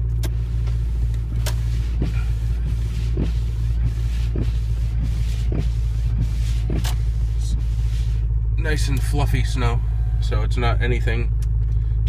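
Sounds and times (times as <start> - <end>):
car engine idling: 0.0 - 12.0
engine rattle: 0.0 - 12.0.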